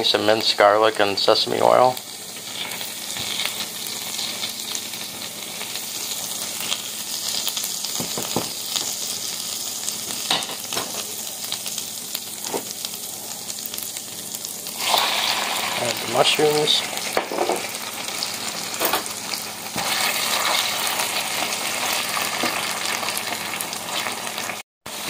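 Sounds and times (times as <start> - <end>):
garlic sizzling in a frying pan: 0.0 - 25.0.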